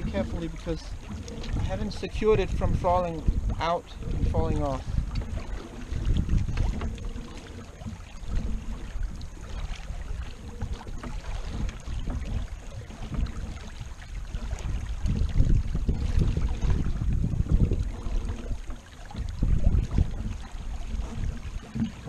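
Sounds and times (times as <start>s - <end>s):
water rushing along hull: 0.0s - 22.0s
wind buffeting microphone: 0.0s - 22.0s.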